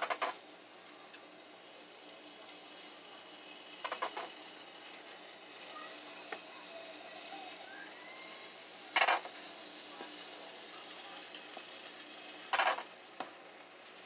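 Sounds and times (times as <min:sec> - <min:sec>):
batter sizzling in pan: 0:00.0 - 0:14.0.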